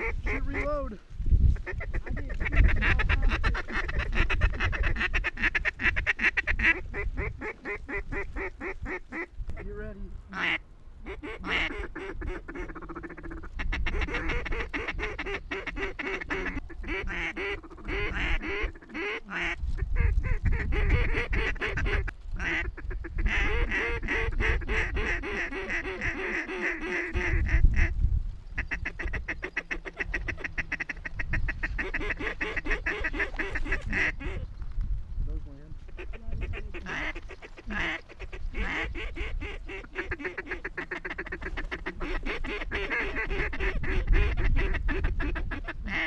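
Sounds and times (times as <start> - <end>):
ducks quacking: 0.0 - 0.9, 1.5 - 34.5, 35.8 - 46.0.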